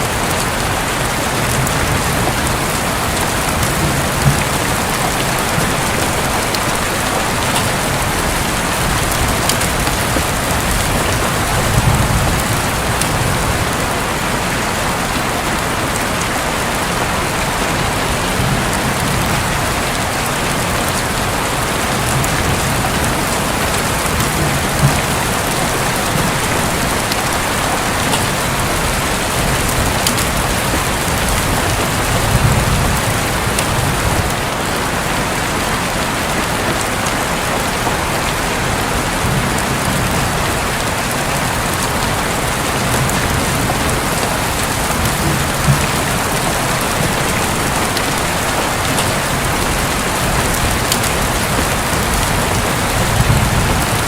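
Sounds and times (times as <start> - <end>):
distant thunder rumble: 0.0 - 16.1, 16.8 - 54.0
rain drumming on a roof: 0.0 - 54.0.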